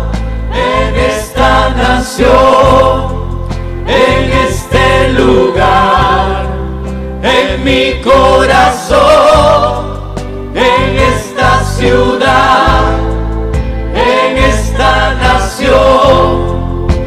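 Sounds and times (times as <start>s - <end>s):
choir singing: 0.0s - 17.0s
steady bass: 0.0s - 17.0s.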